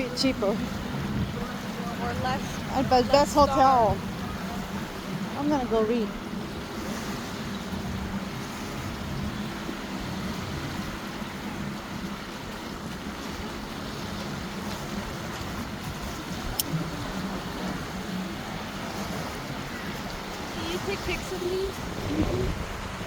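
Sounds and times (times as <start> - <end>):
motorboat engine drone: 0.0 - 23.0
surf washing on beach: 0.0 - 23.0.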